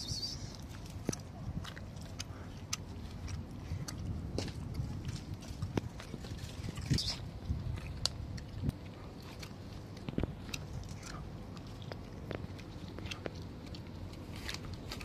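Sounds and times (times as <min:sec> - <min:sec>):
cats crunching dry kibble: 0:00.2 - 0:15.0.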